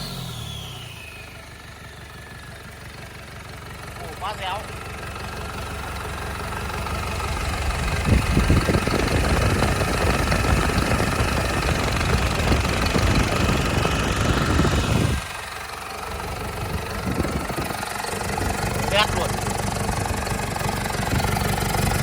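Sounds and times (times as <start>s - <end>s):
diesel engine revving and idling: 0.0s - 22.0s.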